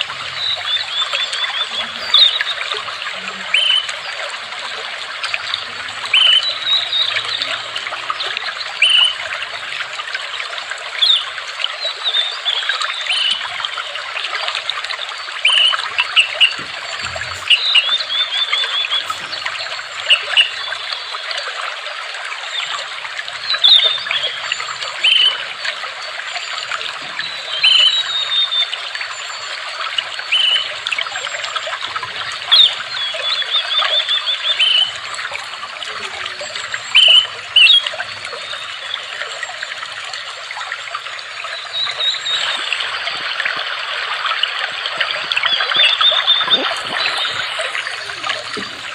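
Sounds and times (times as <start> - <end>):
birds chirping: 0.0 - 9.9, 15.0 - 21.4, 22.5 - 48.9
water trickling: 0.0 - 48.9.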